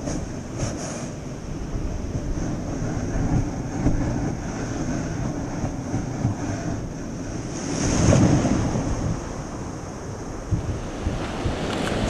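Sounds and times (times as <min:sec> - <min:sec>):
wind rumble on microphone: 0:00.0 - 0:12.0
surf: 0:02.1 - 0:12.0.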